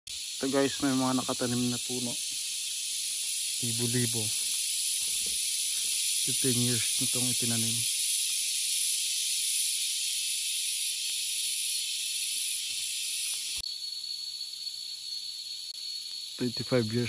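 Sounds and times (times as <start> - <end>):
insect chorus drone: 0.1 - 17.0.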